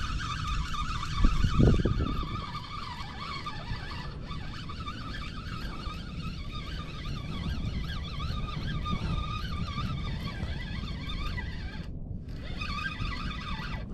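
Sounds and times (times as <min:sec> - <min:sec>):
fishing reel whirring: 0:00.0 - 0:13.9.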